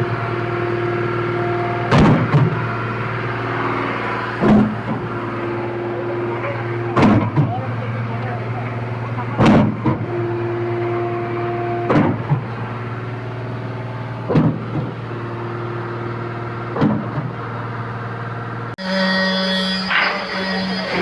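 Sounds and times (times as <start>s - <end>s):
pump pistons knocking: 0.0s - 18.8s
concrete pump engine hum: 0.0s - 21.0s.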